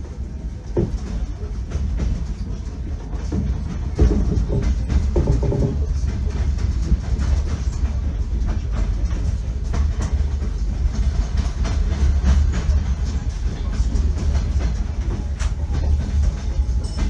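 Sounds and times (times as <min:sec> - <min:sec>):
train rumbling: 0:00.0 - 0:17.0
wheels clacking over rail joints: 0:00.7 - 0:17.0.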